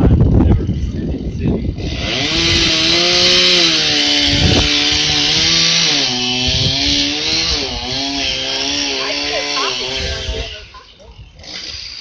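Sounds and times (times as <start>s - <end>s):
chainsaw cutting tree trunk: 1.7s - 12.0s.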